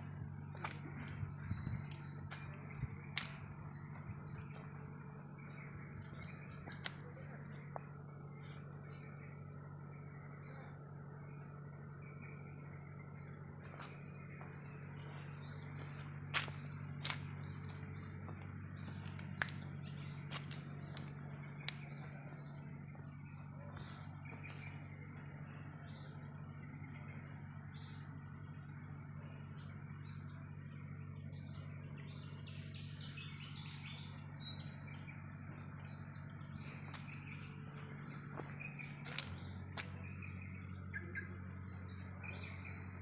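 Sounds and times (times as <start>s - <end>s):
birds chirping: 0.0s - 43.0s
steady low hum: 0.0s - 43.0s.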